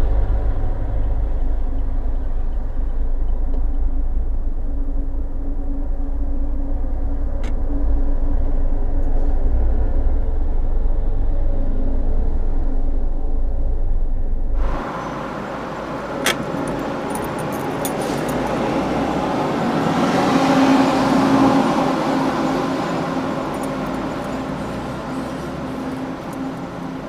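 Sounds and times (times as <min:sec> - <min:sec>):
road and tyre noise: 0:00.0 - 0:27.0.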